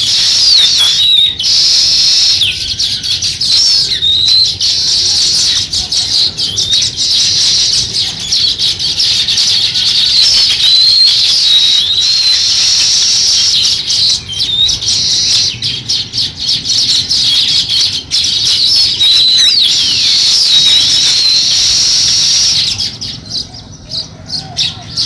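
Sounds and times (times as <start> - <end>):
sliding whistled bird notes: 0.0 - 23.2
flock of songbirds chirping: 0.0 - 25.0.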